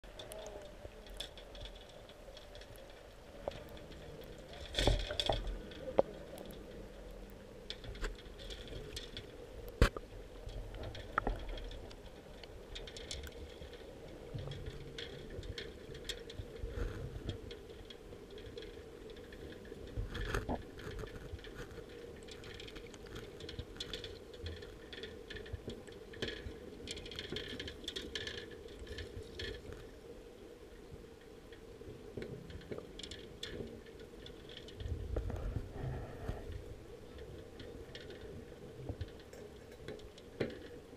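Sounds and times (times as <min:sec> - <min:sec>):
low underwater hum: 0:00.0 - 0:40.9.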